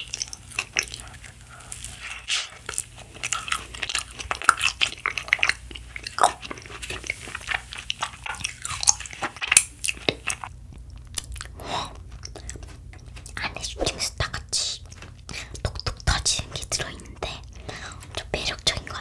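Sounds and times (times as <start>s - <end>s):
chewing frozen dessert crackles: 0.0s - 19.0s.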